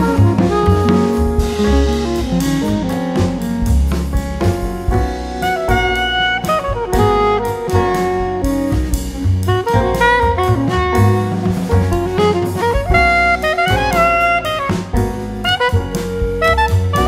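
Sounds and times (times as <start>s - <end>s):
sliding melodic lead: 0.0s - 17.0s
steady drum beat: 0.0s - 17.0s.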